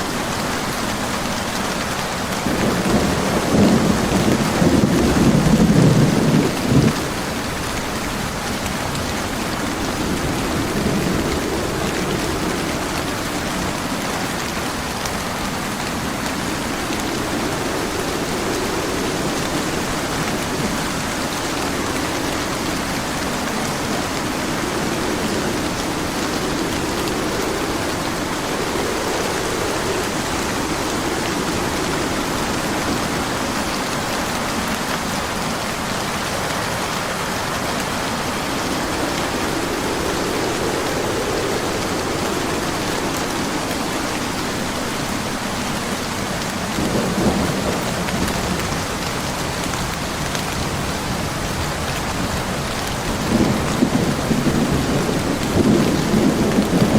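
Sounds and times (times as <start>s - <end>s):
heavy rain: 0.0s - 56.9s
thunder rumble: 0.1s - 56.9s.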